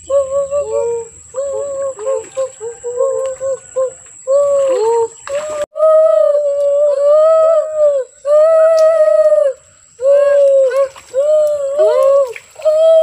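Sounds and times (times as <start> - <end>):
child humming: 0.0 - 13.0.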